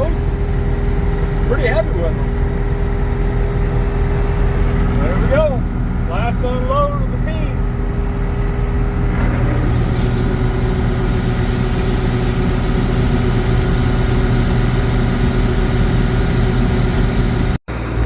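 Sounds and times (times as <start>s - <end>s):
diesel engine hum: 0.0s - 18.0s.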